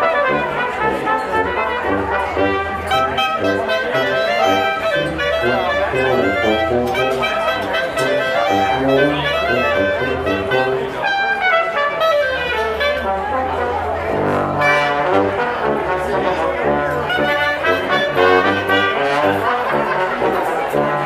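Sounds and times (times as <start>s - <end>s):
oompah band playing folk tune: 0.0s - 21.0s
tuba bass line: 0.0s - 21.0s.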